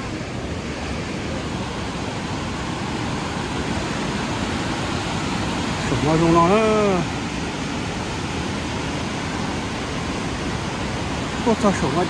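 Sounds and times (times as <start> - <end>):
waterfall rushing: 0.0 - 12.0
white-water river: 0.0 - 12.0.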